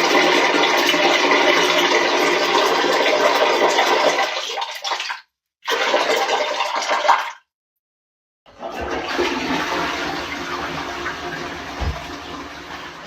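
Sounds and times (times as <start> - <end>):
toilet flushing: 0.0 - 7.4, 8.5 - 13.0
water rushing in toilet bowl: 0.0 - 7.4, 8.5 - 13.0.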